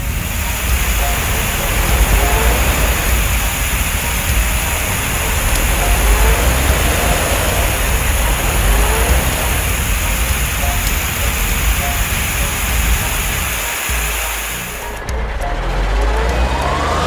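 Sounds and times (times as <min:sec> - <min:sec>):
fire hose spraying water: 0:00.0 - 0:15.0
low engine rumble: 0:00.0 - 0:17.0.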